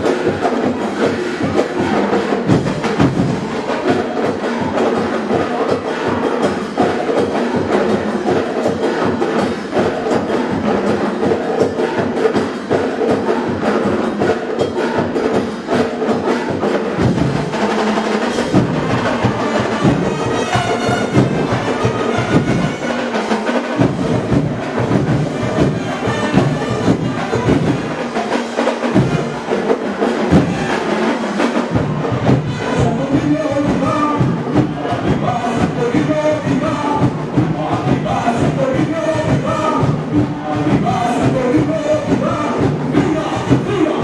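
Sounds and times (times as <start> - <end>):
drums and percussion playing: 0.0 - 44.0.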